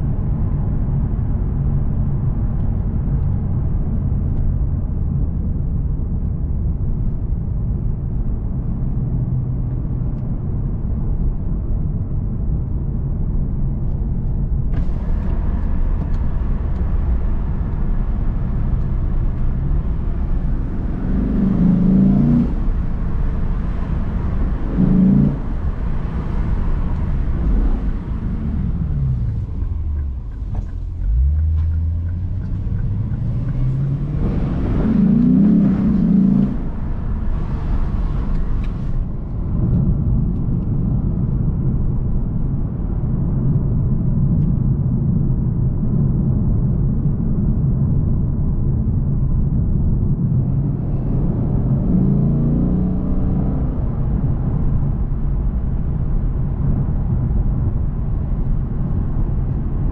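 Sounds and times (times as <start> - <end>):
road noise: 0.0 - 59.9
car engine from inside cabin: 0.1 - 59.9.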